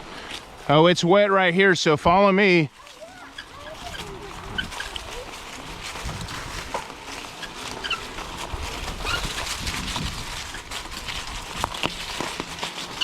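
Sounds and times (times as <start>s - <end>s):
tyres rumbling over rough ground: 0.0s - 13.0s.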